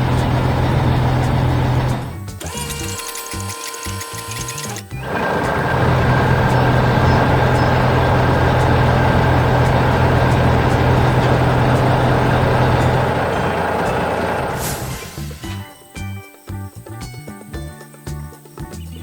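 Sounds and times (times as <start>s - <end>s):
heavy machine engine humming: 0.0s - 15.3s
music: 0.0s - 19.0s.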